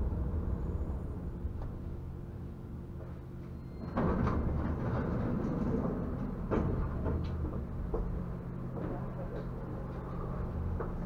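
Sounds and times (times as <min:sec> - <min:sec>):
tram hum and rumble: 0:00.0 - 0:11.0.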